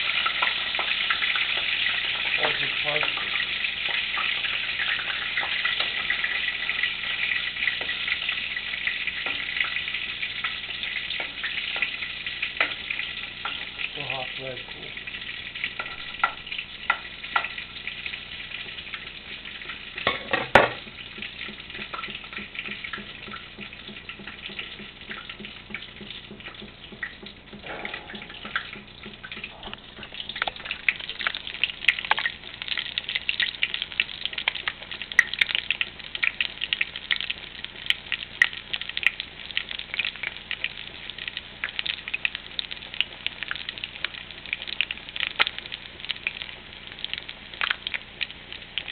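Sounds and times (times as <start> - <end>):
food sizzling in hot oil: 0.0 - 48.9.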